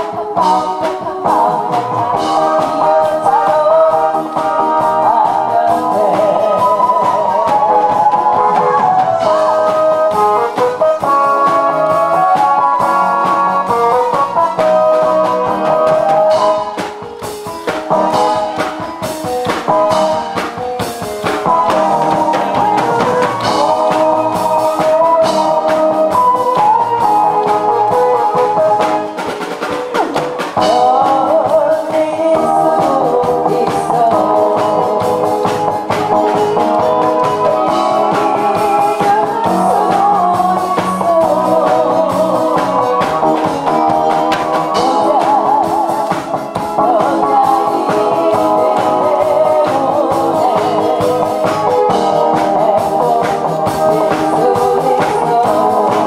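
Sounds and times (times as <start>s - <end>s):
instrumental backing track: 0.0s - 56.0s.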